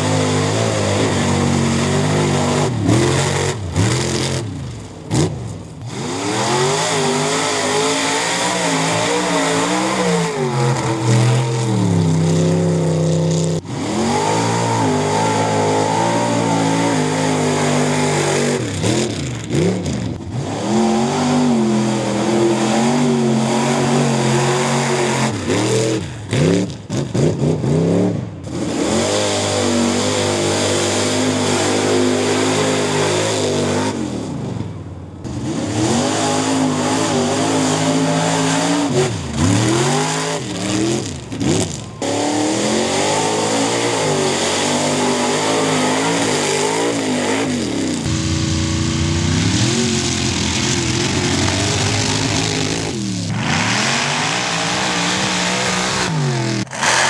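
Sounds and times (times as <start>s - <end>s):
pickup truck engines revving: 0.0s - 57.0s.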